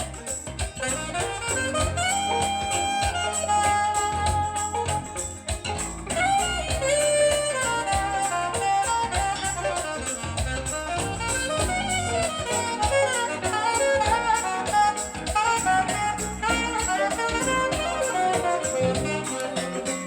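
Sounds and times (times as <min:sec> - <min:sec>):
jazz with saxophone and brass: 0:00.0 - 0:20.0.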